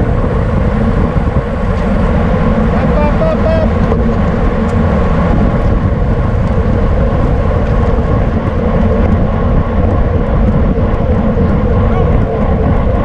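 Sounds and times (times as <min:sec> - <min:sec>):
road noise: 0:00.0 - 0:13.0
wind rushing: 0:00.0 - 0:13.0.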